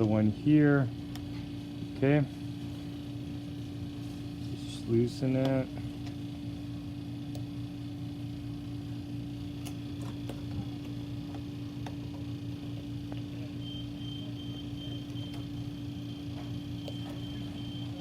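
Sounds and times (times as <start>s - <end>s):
electrical hum of shop equipment: 0.0s - 18.0s.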